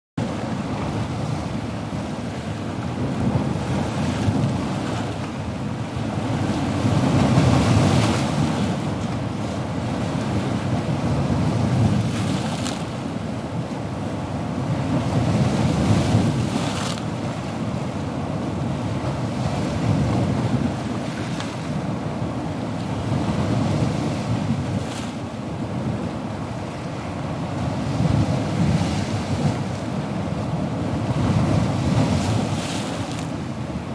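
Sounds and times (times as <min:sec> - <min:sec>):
ocean waves breaking: 0:00.2 - 0:13.4, 0:14.0 - 0:33.9.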